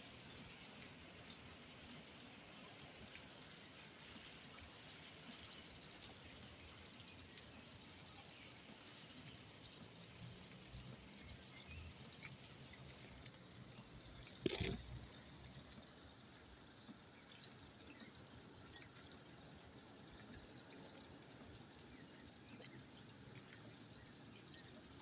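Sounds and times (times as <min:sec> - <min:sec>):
rain dripping: 0:00.0 - 0:25.0.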